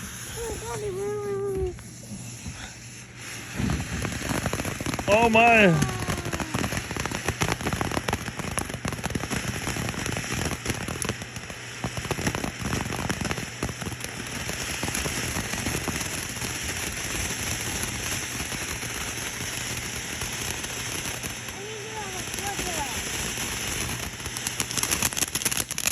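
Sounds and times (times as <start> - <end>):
firework crackling and hissing: 0.0 - 25.9.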